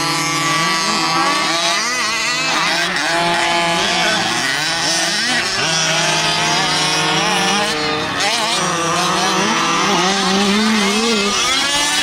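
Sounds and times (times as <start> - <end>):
small two-stroke engines racing: 0.0 - 12.0.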